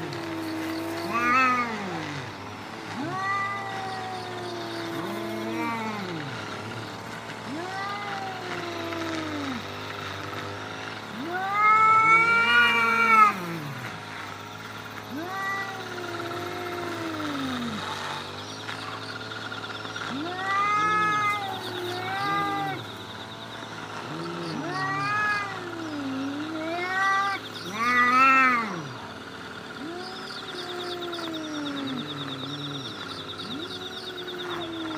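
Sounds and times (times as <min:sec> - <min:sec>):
cats yowling: 0:00.0 - 0:34.9.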